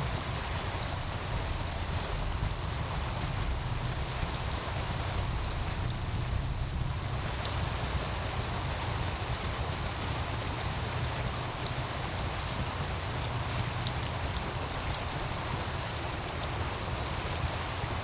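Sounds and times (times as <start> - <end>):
low rumble: 0.0 - 18.0
stream rushing: 0.0 - 18.0
wood fire crackling and popping: 0.0 - 18.0.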